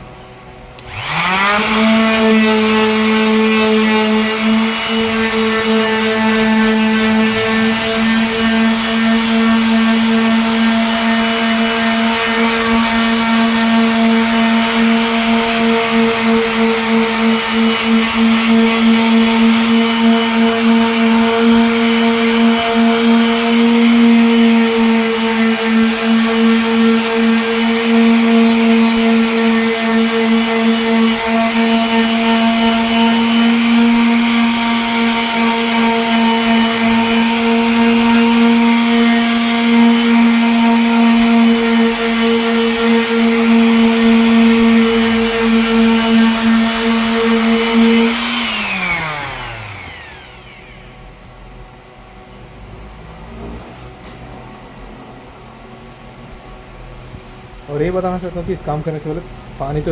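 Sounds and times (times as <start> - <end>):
electric sander running: 0.8 - 56.7.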